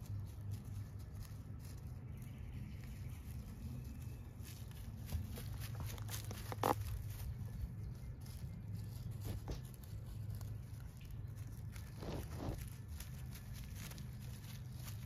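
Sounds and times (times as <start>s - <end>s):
footsteps on forest floor: 0.0s - 15.0s
steady low hum: 0.0s - 15.0s.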